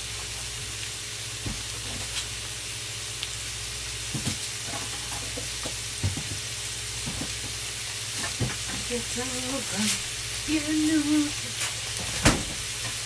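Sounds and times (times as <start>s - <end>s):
food frying sizzle: 0.0s - 13.0s.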